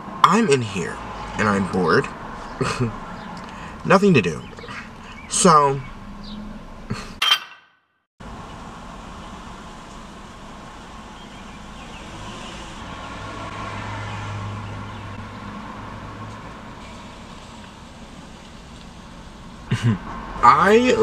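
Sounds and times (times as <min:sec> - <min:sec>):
car engine humming: 0:00.0 - 0:07.2, 0:08.2 - 0:21.0
traffic noise: 0:00.0 - 0:07.2, 0:08.2 - 0:21.0.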